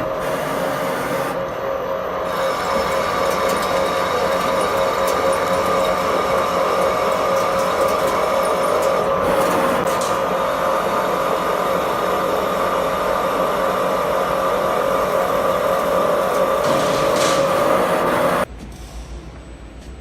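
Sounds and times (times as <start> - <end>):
lathe machine hum: 0.0 - 18.5.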